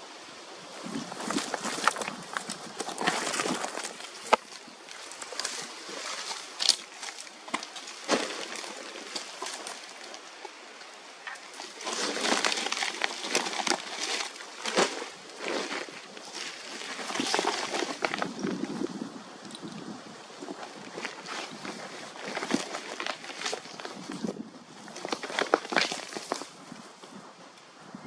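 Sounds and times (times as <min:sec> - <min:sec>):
rustling and scuffing: 0:00.7 - 0:19.0, 0:20.3 - 0:27.3.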